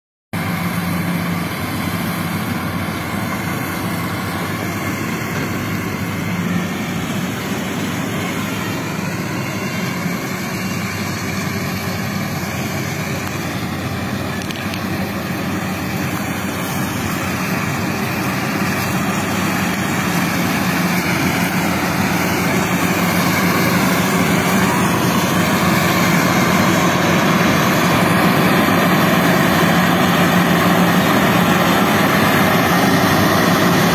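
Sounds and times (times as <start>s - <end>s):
combine harvester running: 0.3s - 33.9s.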